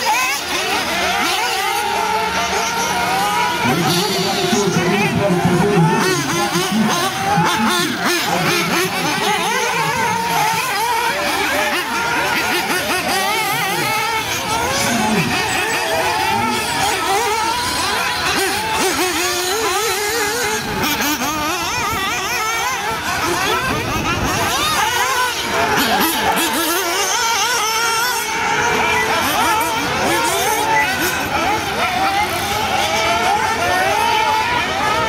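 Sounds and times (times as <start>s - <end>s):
rc car engines revving: 0.0s - 35.0s.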